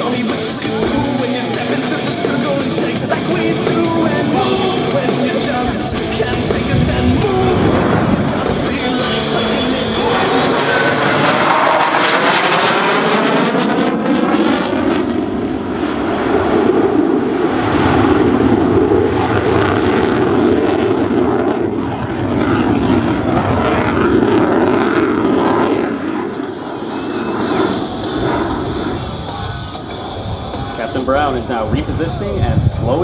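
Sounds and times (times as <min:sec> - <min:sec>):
fighter jet engine roaring: 0:00.0 - 0:33.0.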